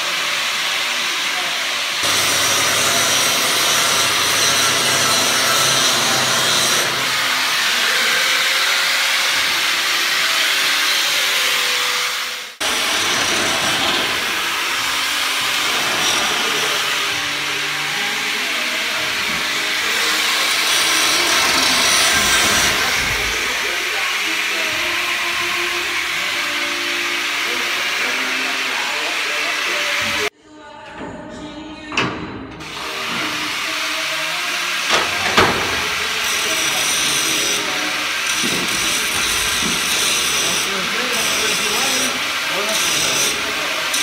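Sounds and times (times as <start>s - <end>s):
angle grinder grinding metal: 0.0s - 30.3s, 32.6s - 44.0s
workshop machine noise: 0.0s - 30.3s, 31.0s - 44.0s.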